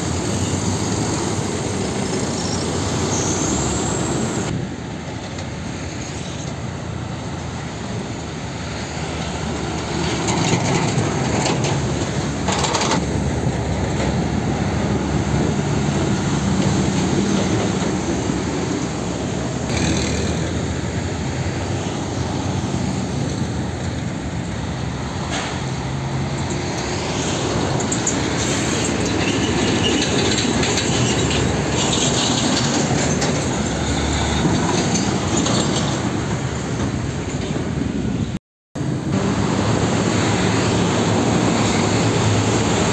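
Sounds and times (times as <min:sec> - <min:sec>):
diesel trucks driving past: 0:00.0 - 0:42.9
tyre and road noise: 0:00.0 - 0:42.9.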